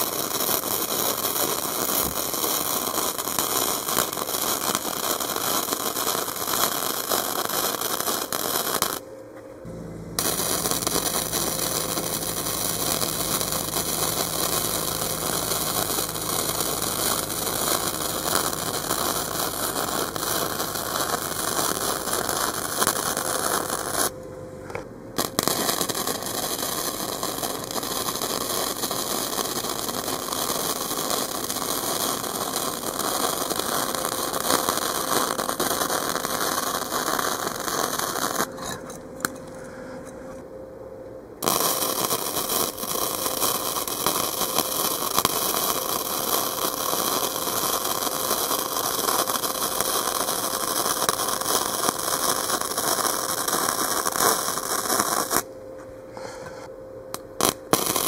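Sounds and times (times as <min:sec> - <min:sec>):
welding arc crackling: 0:00.0 - 0:24.2, 0:25.2 - 0:39.4, 0:41.4 - 0:55.5, 0:57.1 - 0:58.0.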